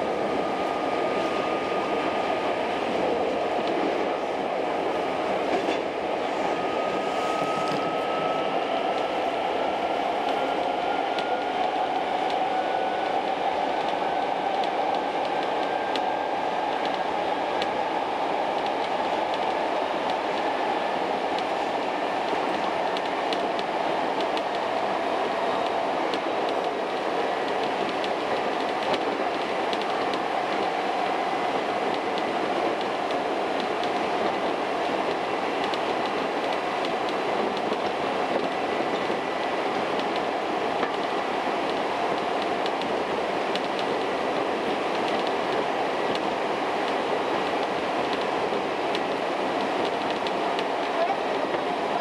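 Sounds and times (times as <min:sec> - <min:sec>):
train wheels rumbling: 0:00.0 - 0:52.0.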